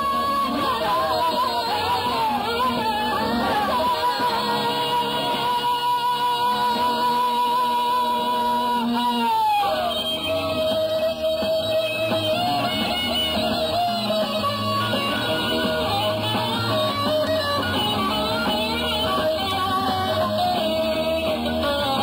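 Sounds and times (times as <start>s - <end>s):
electric guitar: 0.0s - 22.0s
rock band playing live: 0.0s - 22.0s.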